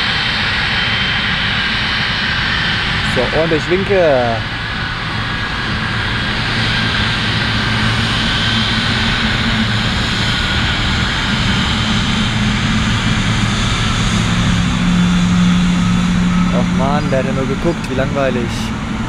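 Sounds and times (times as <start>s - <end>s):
jet engine idling: 0.0s - 19.0s.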